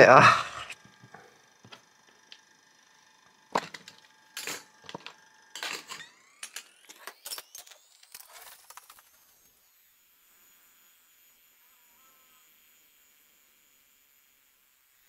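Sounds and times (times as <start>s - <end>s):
small fan motor whining: 0.0s - 15.0s.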